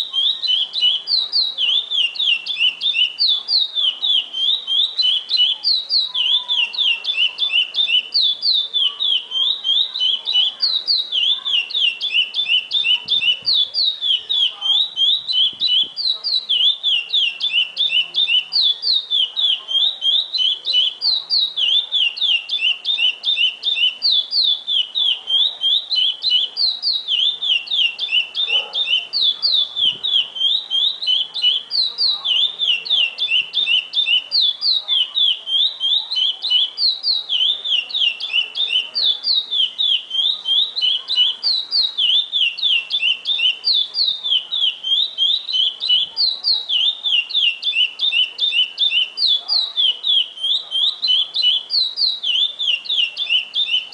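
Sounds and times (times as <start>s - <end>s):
bird singing high whistled notes: 0.0s - 53.9s.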